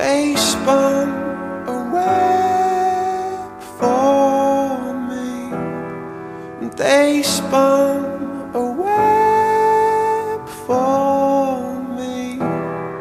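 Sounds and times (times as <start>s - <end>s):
slow song with piano: 0.0s - 13.0s.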